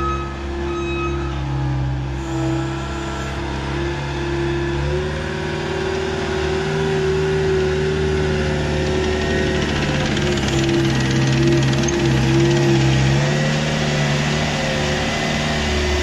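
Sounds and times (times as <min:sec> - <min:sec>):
skid loader engine running: 0:00.0 - 0:16.0.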